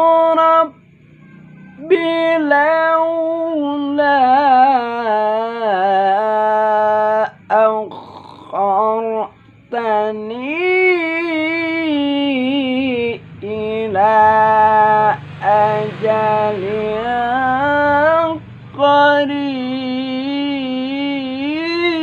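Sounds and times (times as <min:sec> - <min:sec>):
man reciting melodically: 0:01.8 - 0:22.0.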